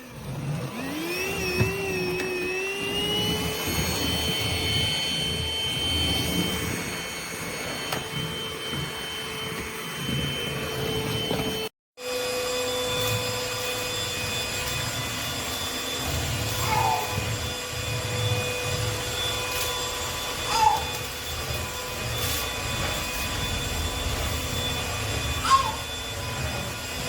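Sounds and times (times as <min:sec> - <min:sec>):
stick vacuum cleaner running: 0:00.0 - 0:27.0.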